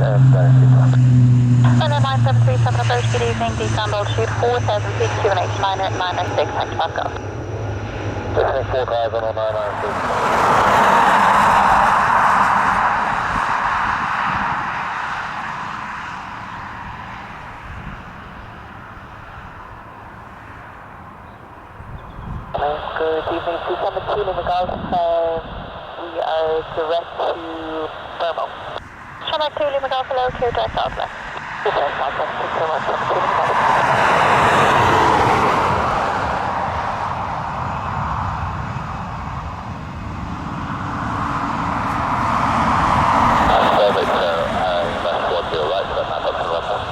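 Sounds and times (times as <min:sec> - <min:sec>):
airliner flying past: 0:00.0 - 0:46.9.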